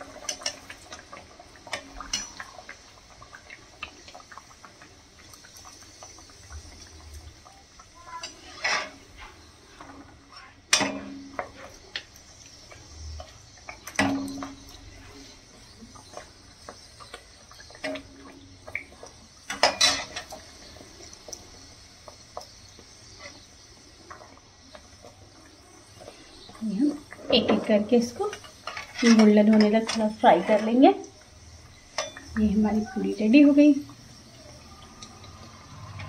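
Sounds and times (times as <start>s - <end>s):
oil sizzling: 0.0s - 36.0s.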